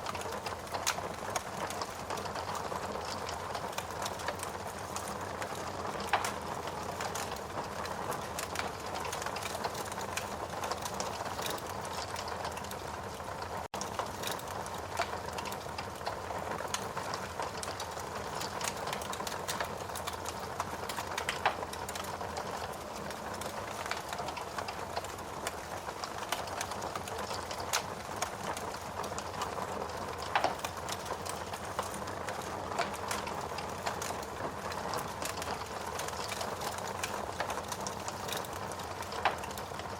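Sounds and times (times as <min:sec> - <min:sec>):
fire popping: 0:00.0 - 0:39.9
logs burning in a fireplace: 0:00.0 - 0:39.9.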